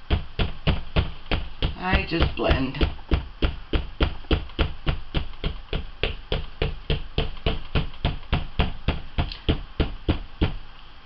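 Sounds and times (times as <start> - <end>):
stamp tapping on a tile: 0.1 - 10.6.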